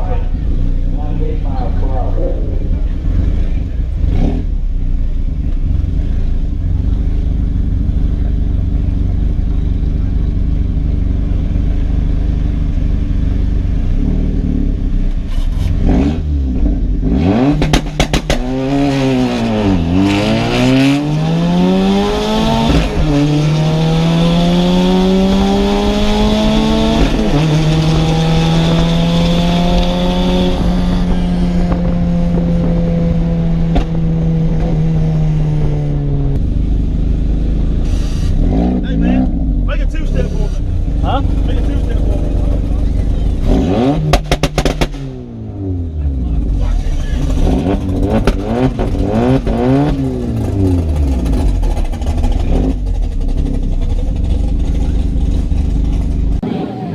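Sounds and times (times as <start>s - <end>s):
car engine accelerating hard: 0.0s - 56.9s.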